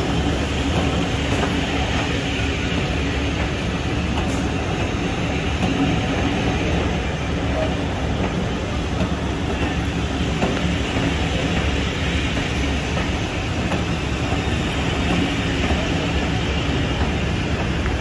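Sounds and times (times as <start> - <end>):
wheel-on-rail noise: 0.0 - 18.0.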